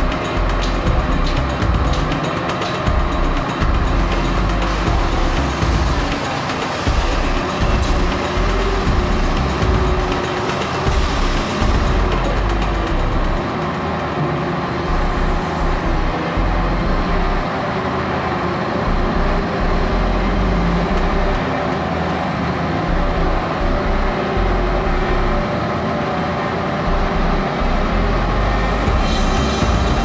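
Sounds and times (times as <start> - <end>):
diesel hydraulic power pack running: 0.0 - 30.0.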